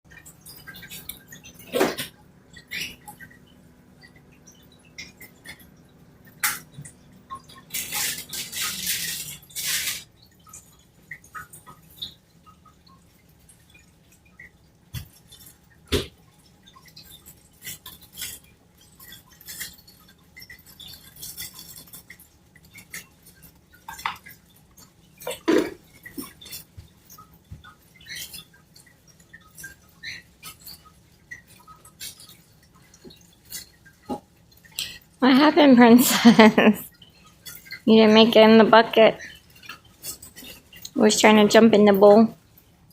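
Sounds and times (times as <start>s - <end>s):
water drips and splashes: 0.1s - 42.9s.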